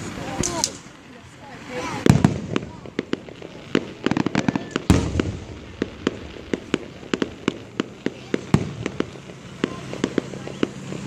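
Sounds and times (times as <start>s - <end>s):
fireworks popping and crackling: 0.0s - 11.0s
loud firework bang: 1.9s - 11.0s.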